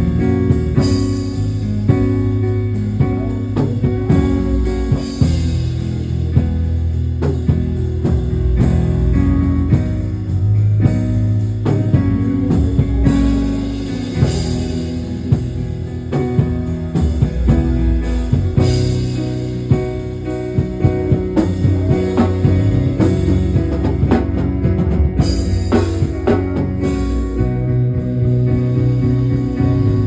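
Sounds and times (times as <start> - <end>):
bass guitar: 0.0 - 30.0
drum kit playing a steady beat: 0.0 - 30.0
electric guitar: 0.0 - 30.0.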